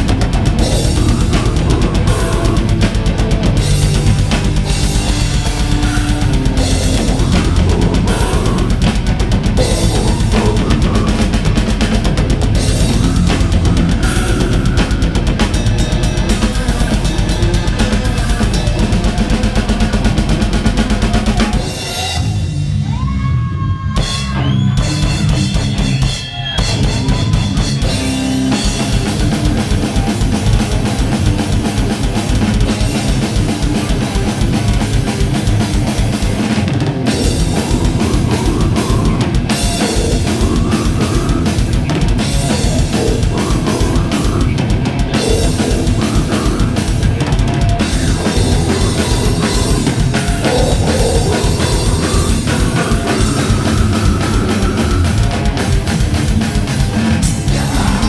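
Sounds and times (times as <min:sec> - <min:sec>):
fast pounding bass drum: 0:00.0 - 0:23.2, 0:24.0 - 0:58.0
distorted electric guitars: 0:00.0 - 0:58.0.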